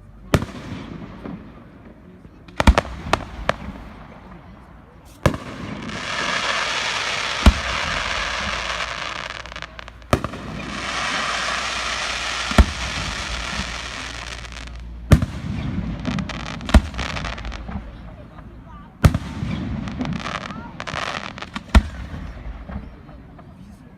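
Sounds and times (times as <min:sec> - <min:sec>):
dense firework crackling: 0:00.3 - 0:23.7.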